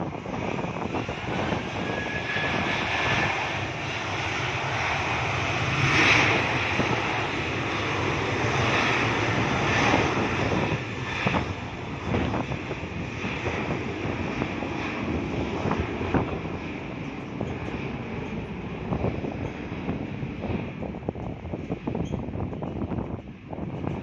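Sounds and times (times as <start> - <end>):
airliner engines rushing: 0.0 - 24.0.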